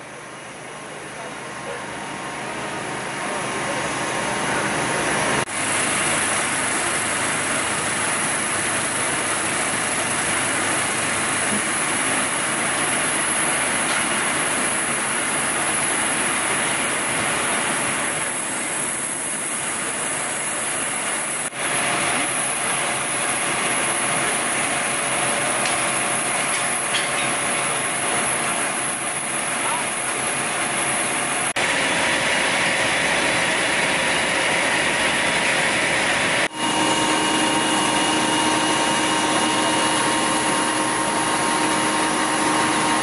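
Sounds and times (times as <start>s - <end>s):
fire engines running: 0.0s - 43.0s.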